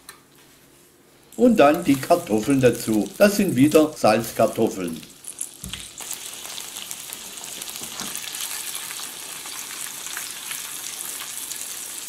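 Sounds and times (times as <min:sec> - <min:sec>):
potatoes sizzling in oil: 0:01.4 - 0:12.0.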